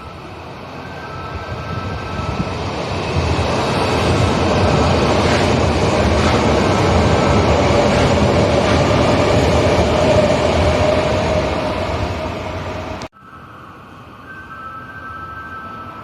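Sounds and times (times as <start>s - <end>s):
train wheels rumbling on rail: 0.0s - 13.1s
train whine: 0.0s - 16.0s.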